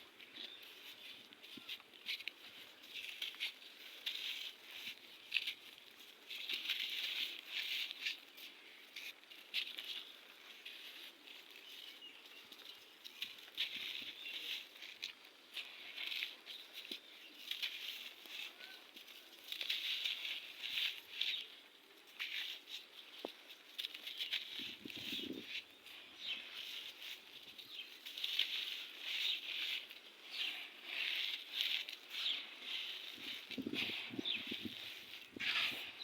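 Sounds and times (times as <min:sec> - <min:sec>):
sand crumbling and crackling: 0:00.2 - 0:36.0.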